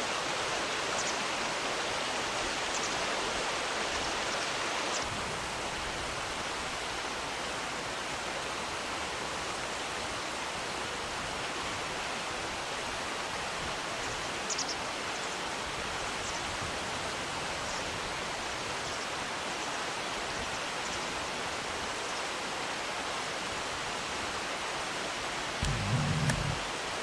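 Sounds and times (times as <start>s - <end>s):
flowing river water: 0.0s - 27.0s.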